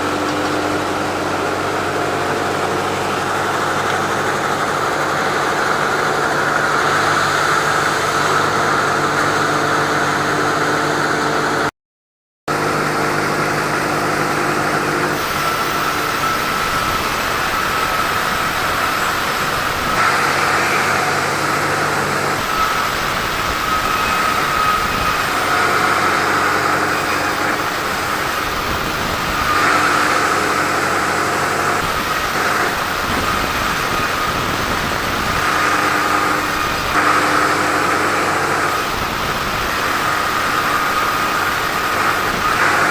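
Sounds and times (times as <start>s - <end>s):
saw whining: 0.0s - 11.0s, 12.6s - 42.9s
engine hum: 0.0s - 11.7s, 12.5s - 42.9s.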